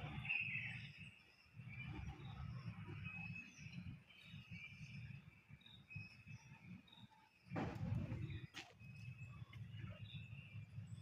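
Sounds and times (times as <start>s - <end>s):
faint low rumble on microphone: 0.0s - 11.0s.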